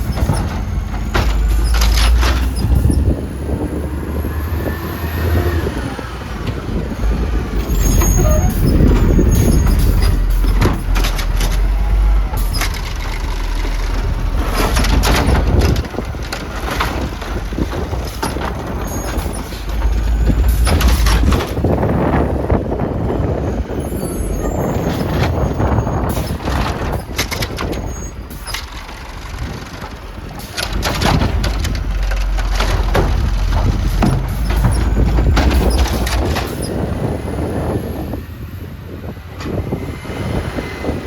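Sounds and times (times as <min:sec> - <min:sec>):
garbage truck running: 0:00.0 - 0:41.0
wind buffeting microphone: 0:00.0 - 0:41.0.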